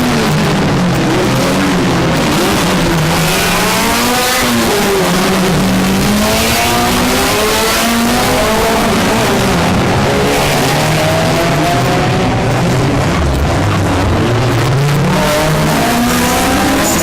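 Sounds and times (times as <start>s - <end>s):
race car engines accelerating: 0.0s - 17.0s.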